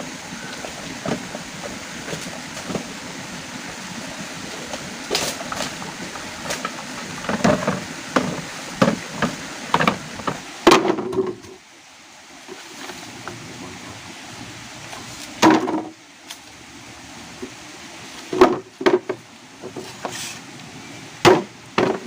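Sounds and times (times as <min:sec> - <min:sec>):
rain hiss: 0:00.0 - 0:22.0.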